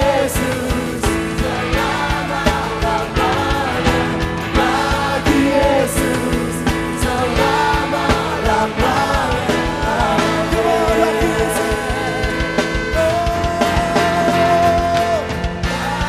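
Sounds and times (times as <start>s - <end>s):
group of singers singing: 0.0s - 16.0s
live band music: 0.0s - 16.0s
steady drum beat: 0.0s - 16.0s.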